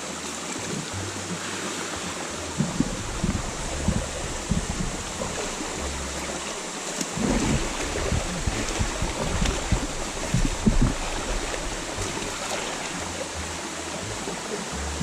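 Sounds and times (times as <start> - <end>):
stream water rushing over rocks: 0.0 - 15.0
low microphone rumbles: 2.3 - 15.0.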